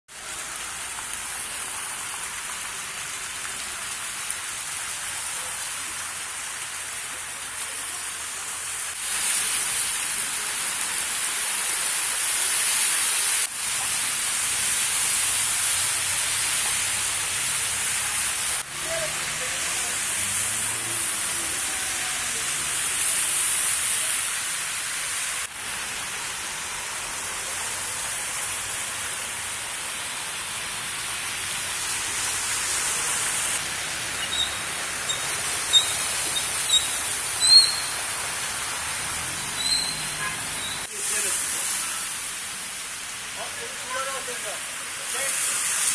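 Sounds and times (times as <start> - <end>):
cars driving through floodwater: 0.1 - 45.9
rain hissing on flooded street: 0.1 - 45.9.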